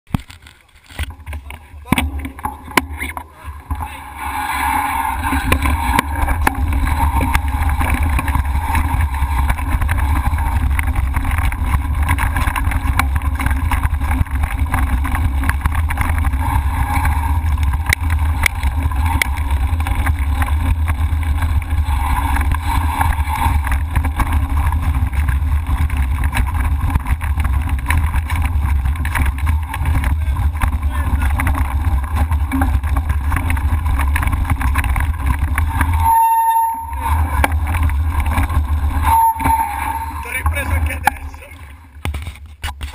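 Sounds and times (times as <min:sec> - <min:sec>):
bike tyres rumbling on gravel: 0:00.0 - 0:42.9
bike rattling over stones: 0:00.1 - 0:42.9
wind buffeting camera: 0:00.1 - 0:42.9.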